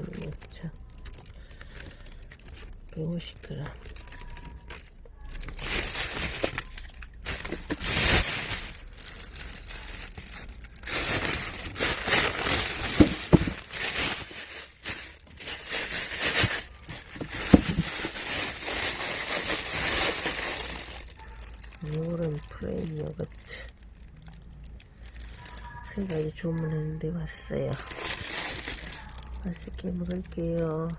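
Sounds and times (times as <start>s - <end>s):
packaging crinkling and rustling: 0.0s - 30.9s.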